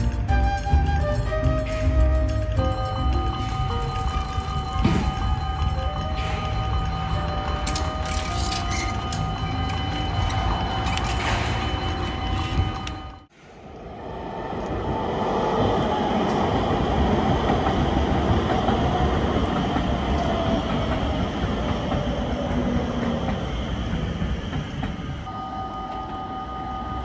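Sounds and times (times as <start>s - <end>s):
metro train rumbling on rails: 0.0s - 27.0s.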